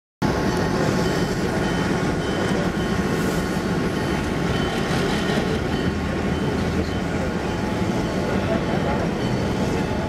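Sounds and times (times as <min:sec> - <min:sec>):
diesel locomotive engine running: 0:00.2 - 0:10.0.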